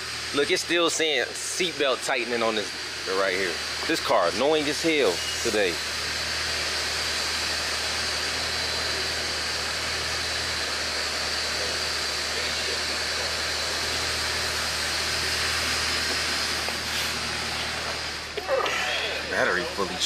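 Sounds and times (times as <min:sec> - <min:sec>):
blower fan hissing: 0:00.0 - 0:20.0.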